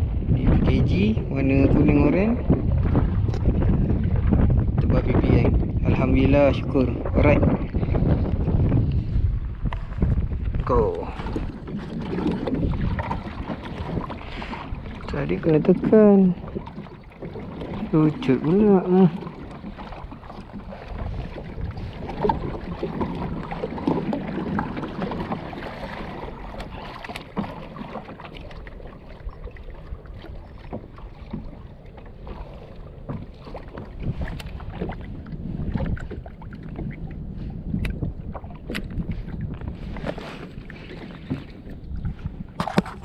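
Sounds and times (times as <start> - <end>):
waves slapping kayak hull: 0.0 - 43.0
wind buffeting microphone: 0.0 - 43.0.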